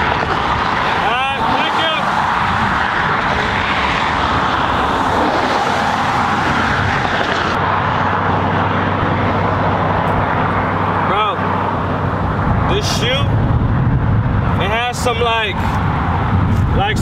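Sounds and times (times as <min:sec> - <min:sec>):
loud rushing drone: 0:00.0 - 0:17.0.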